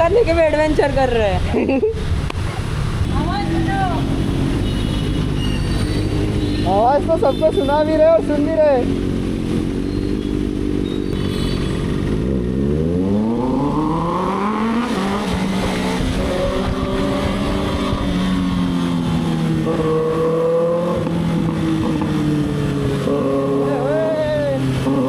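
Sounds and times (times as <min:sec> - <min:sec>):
motorcycle engine revving: 0:03.1 - 0:25.0.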